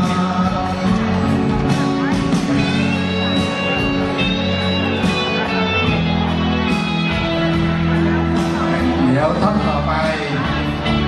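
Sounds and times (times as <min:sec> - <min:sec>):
guitar: 0:00.0 - 0:11.0
live band playing: 0:00.0 - 0:11.0.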